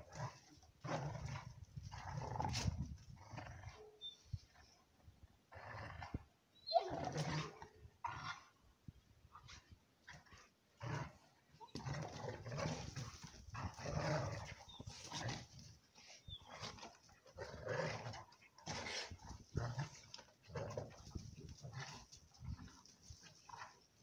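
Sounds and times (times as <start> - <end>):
dogs growling and grunting: 0.0 - 4.8, 5.5 - 8.6, 9.4 - 23.8.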